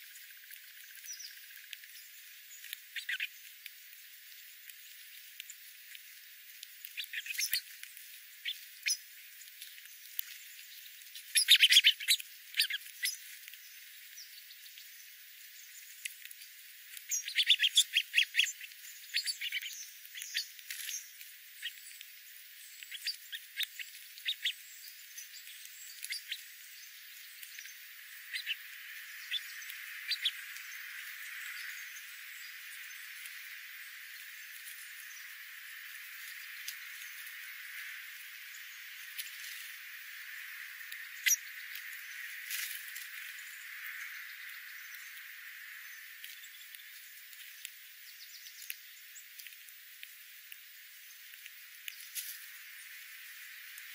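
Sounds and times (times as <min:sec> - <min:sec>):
birds chirping and chattering: 0:00.0 - 0:53.9.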